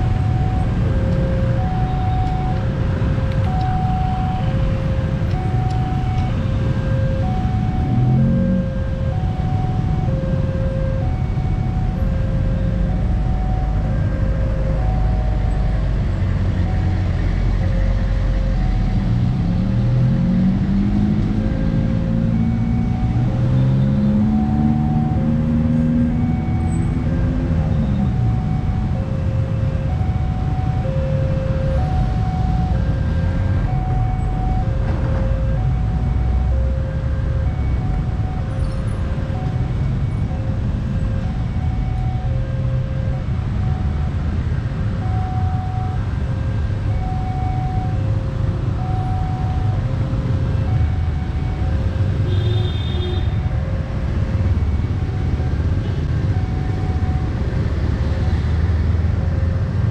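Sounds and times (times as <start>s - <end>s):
heavy engines rumbling: 0.0s - 59.9s.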